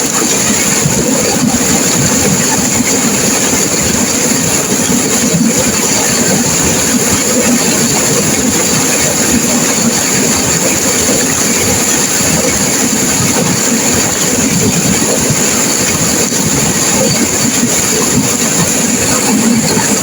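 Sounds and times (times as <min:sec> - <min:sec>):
turbulent river water rushing: 0:00.0 - 0:20.0.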